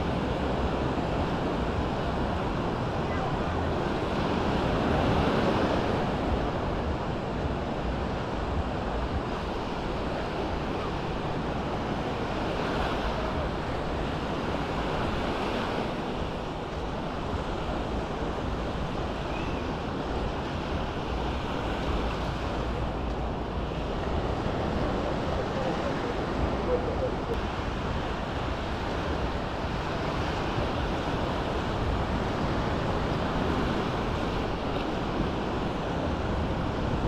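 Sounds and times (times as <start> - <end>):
small waves washing on shore: 0.0 - 37.0
wind on microphone: 0.0 - 37.0.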